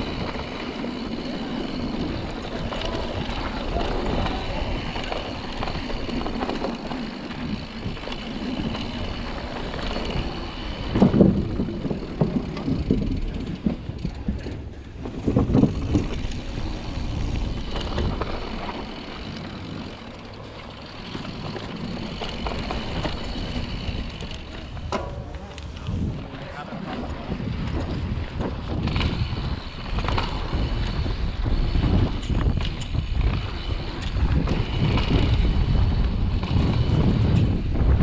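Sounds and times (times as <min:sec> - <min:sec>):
bike rattling over bumps: 0:00.0 - 0:38.0
bike tyres on dirt: 0:00.0 - 0:38.0
tyres on wooden plank bridge: 0:00.0 - 0:38.0.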